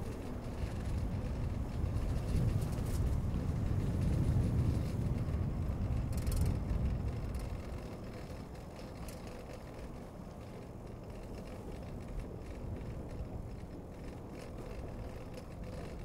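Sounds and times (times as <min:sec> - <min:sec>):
bicycle riding noise: 0:00.0 - 0:16.0
city street traffic rumble: 0:00.0 - 0:16.0.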